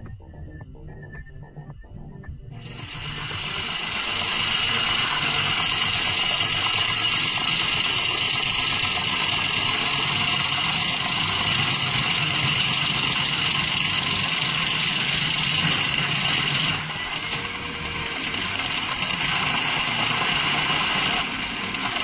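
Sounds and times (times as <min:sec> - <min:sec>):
heavy machine engine running: 0:02.1 - 0:22.0.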